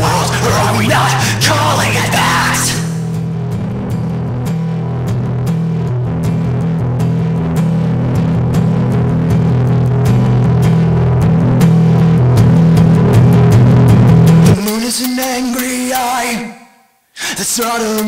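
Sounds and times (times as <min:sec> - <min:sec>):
instrumental rock music: 0:00.0 - 0:15.6.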